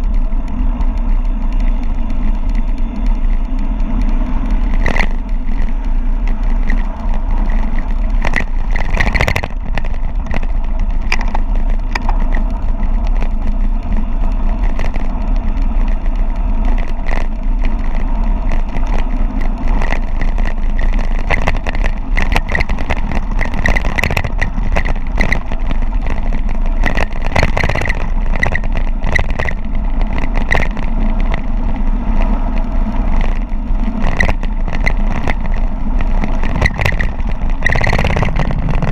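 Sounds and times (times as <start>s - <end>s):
bike rattling over rocks: 0.0s - 38.9s
wind rushing over microphone: 0.0s - 38.9s.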